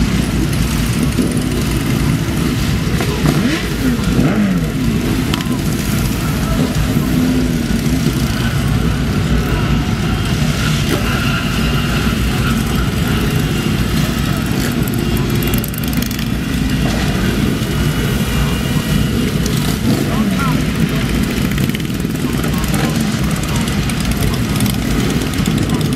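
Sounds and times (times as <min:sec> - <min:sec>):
many motorcycle engines: 0:00.0 - 0:25.9.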